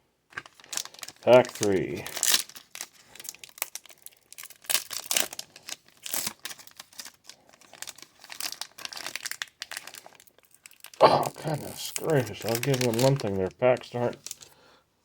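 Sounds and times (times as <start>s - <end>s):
wrapper crinkling and tearing: 0.3s - 14.6s.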